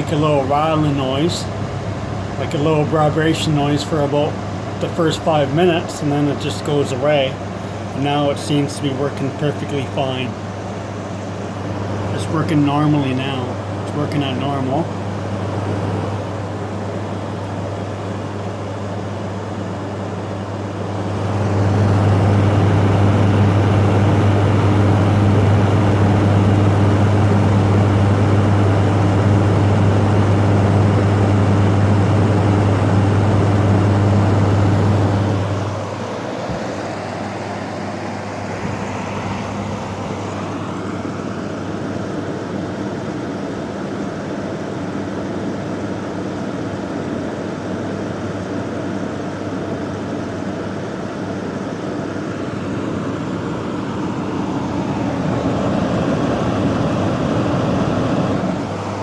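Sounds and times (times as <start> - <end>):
air conditioner fan humming: 0.0 - 59.0.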